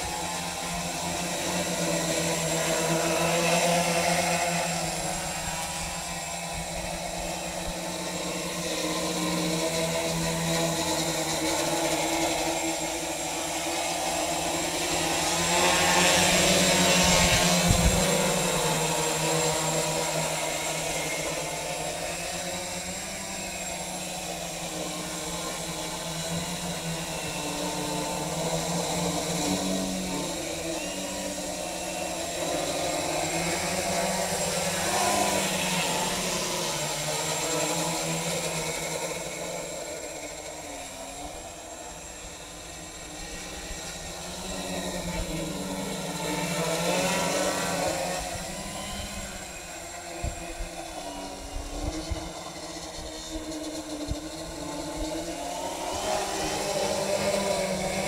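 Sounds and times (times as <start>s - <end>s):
quadcopter motors buzzing: 0.0s - 58.0s.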